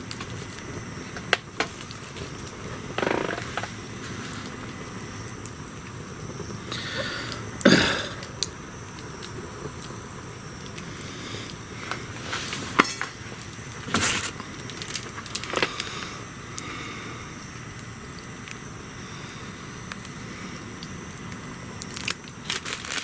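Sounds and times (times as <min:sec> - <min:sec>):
bonfire crackling: 0:00.0 - 0:23.0
fire hissing: 0:00.0 - 0:23.0.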